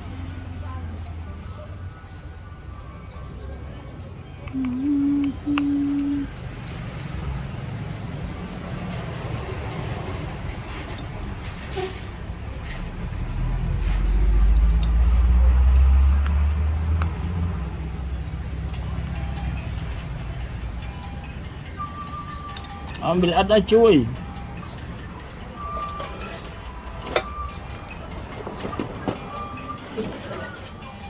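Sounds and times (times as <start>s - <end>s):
passing motor vehicle rumble: 0.0s - 31.0s.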